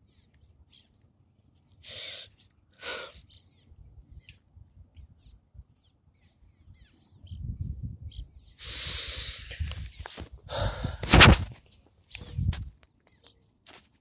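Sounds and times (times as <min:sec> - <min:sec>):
small birds chirping: 0:00.0 - 0:09.9, 0:11.7 - 0:14.0.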